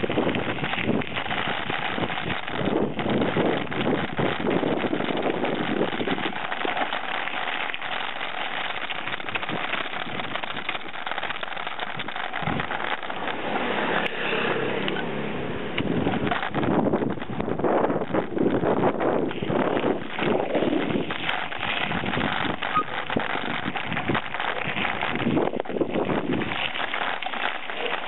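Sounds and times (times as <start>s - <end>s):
tyres crackling and bike rattling: 0.0s - 28.0s
wind and road noise: 0.0s - 28.0s.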